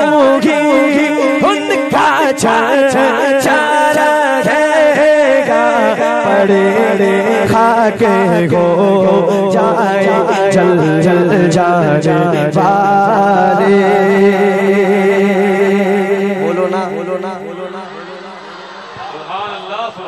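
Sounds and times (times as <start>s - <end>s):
man singing ornamented vocal line: 0.0s - 18.3s.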